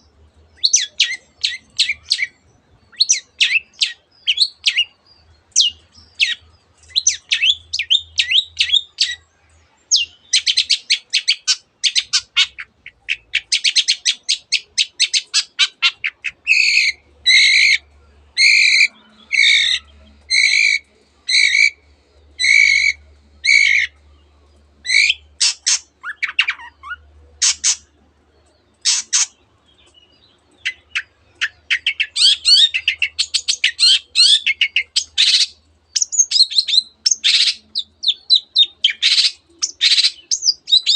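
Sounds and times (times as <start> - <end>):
shrike singing with trills: 0.0 - 40.9.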